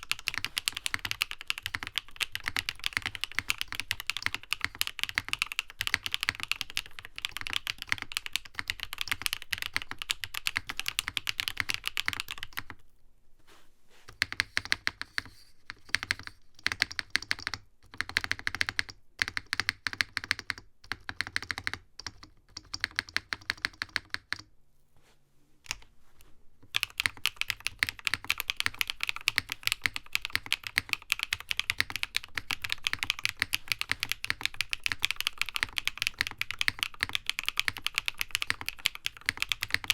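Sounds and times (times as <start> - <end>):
mechanical keyboard typing: 0.0 - 12.8, 14.1 - 24.5, 26.6 - 39.9.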